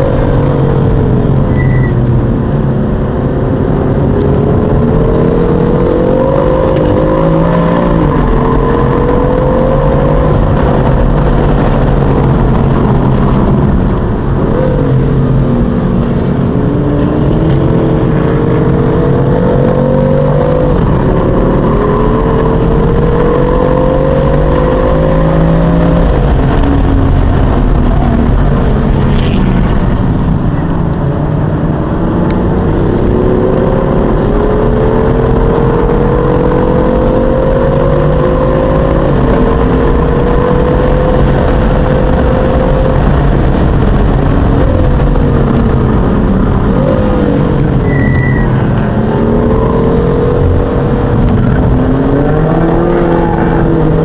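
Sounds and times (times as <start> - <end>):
car engine revving in cabin: 0.0 - 54.0.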